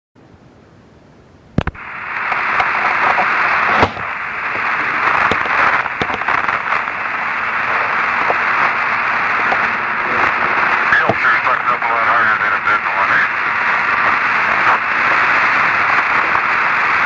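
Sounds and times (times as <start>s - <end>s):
radio static hiss: 1.1s - 17.0s
crackling clicks: 1.6s - 17.0s.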